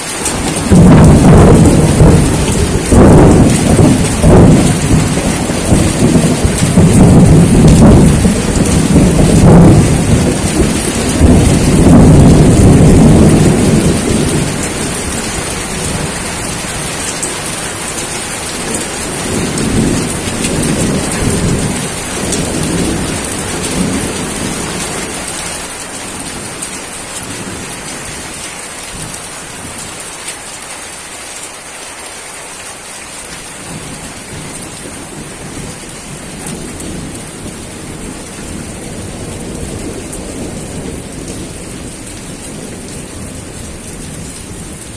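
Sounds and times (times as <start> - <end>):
heavy rain: 0.0 - 44.9
rolling thunder: 0.2 - 28.3, 33.6 - 44.9.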